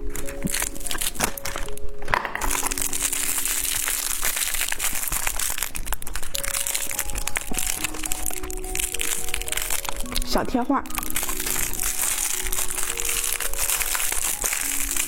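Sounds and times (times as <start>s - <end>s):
plastic wrapping crinkling: 0.0s - 15.0s
soft background music: 0.0s - 15.0s.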